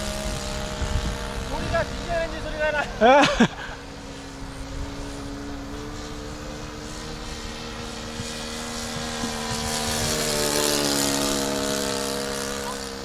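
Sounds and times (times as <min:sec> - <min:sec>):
model plane engine droning: 0:00.0 - 0:13.0.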